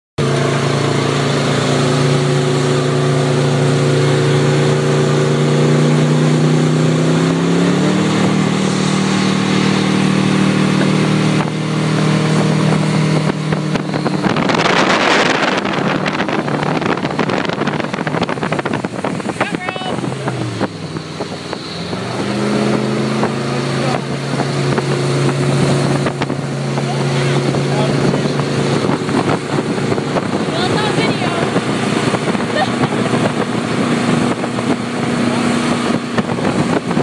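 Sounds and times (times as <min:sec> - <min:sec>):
powerboat engine running: 0:00.2 - 0:37.0
wind and water rushing: 0:00.2 - 0:37.0
loud rush of noise: 0:00.4 - 0:37.0.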